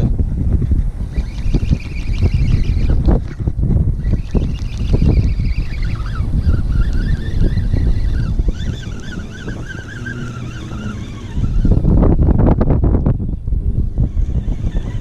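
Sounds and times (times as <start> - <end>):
thin wavering whine: 0.0 - 15.0
wind buffeting microphone: 0.0 - 15.0.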